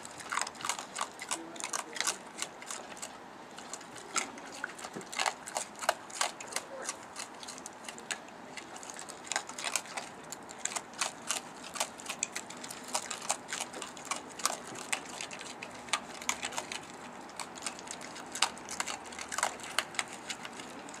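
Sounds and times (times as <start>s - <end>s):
raccoons crunching dry kibble: 0.0s - 21.0s.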